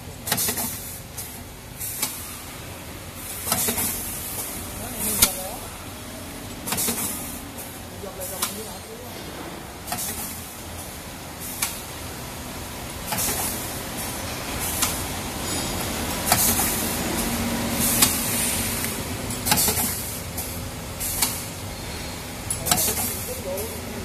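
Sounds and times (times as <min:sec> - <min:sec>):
machine hum: 0:01.0 - 0:24.0.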